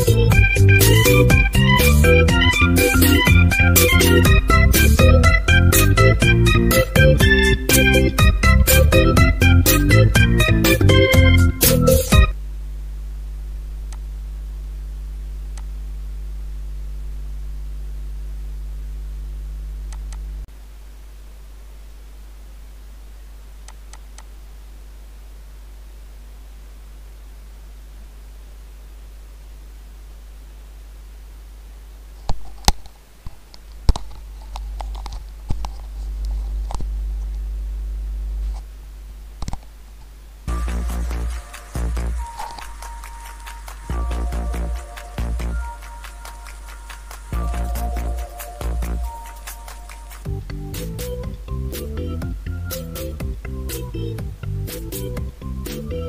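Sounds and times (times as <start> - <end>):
low electrical mains hum: 0.0 - 56.0.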